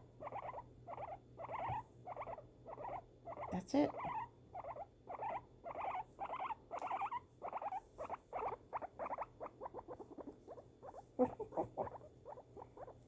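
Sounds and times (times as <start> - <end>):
guinea pig purring calls: 0.0 - 13.0.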